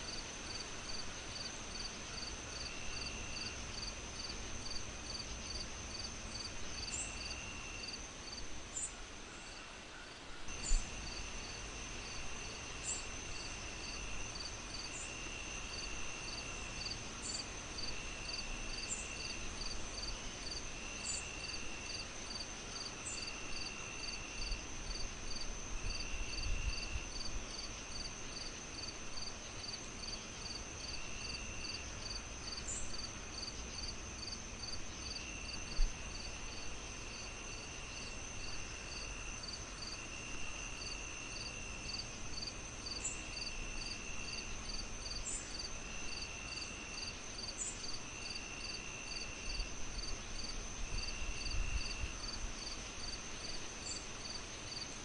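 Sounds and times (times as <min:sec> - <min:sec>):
lower insect trill: 0:00.0 - 0:09.6, 0:10.5 - 0:54.9
cricket chirps: 0:00.0 - 0:55.0
low hiss: 0:00.0 - 0:55.0
high insect trill: 0:10.5 - 0:54.8.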